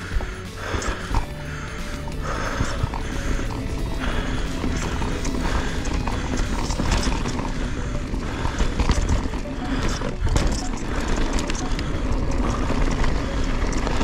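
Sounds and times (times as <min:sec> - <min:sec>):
mountain bike rattling over rocks: 0:00.1 - 0:14.0.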